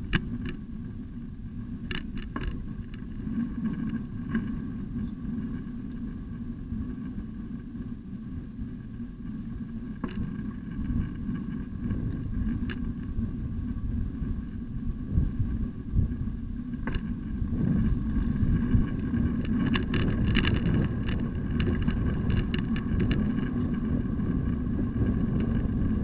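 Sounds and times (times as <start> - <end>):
bicycle rolling on pavement: 0.0 - 26.0.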